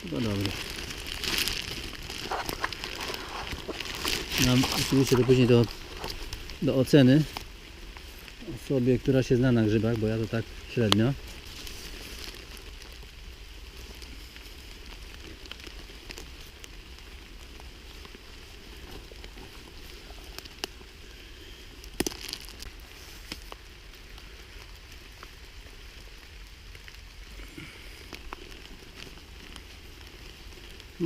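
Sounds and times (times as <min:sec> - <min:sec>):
rain pattering in a forest: 0:00.0 - 0:31.0.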